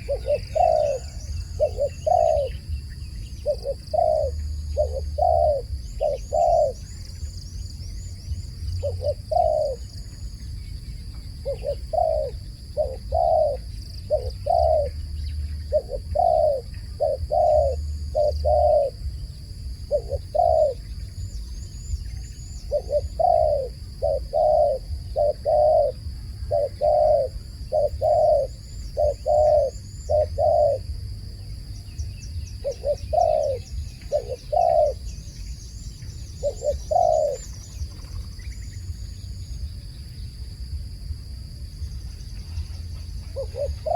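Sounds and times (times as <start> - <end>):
dove cooing: 0.0 - 10.2, 11.4 - 31.0, 32.4 - 38.8, 42.2 - 43.9
faint high bird chirps: 0.0 - 40.6, 41.8 - 43.9.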